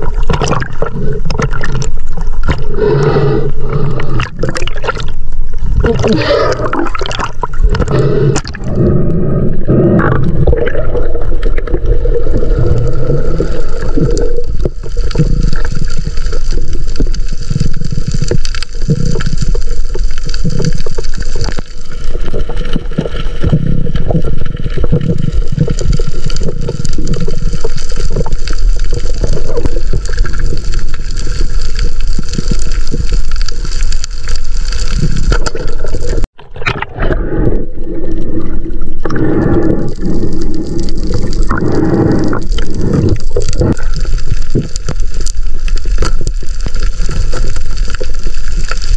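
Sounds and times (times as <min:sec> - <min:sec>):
underwater rumble and gurgle: 0:00.0 - 0:48.9.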